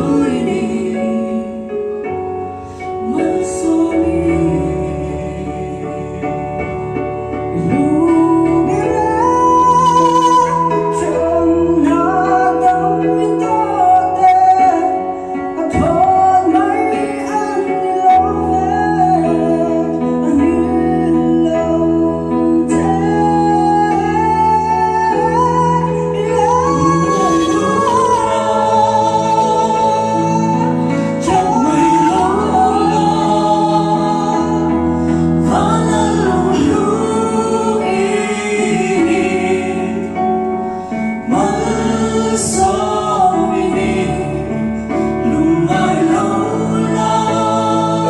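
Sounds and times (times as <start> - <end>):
instrumental accompaniment: 0.0 - 48.0
vocal trio singing: 0.0 - 48.0.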